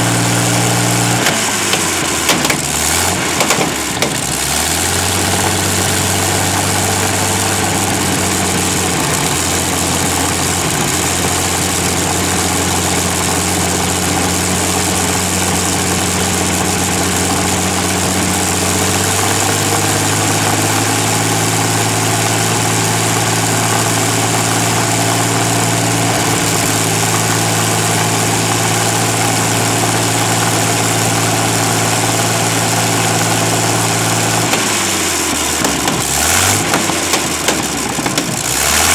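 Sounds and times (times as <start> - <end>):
aircraft piston engine running: 0.0 - 38.9.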